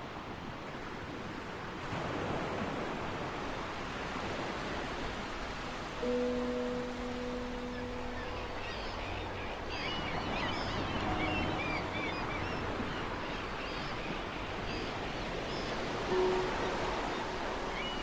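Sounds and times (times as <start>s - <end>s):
wind: 0.0s - 18.0s
water noise: 1.0s - 18.0s.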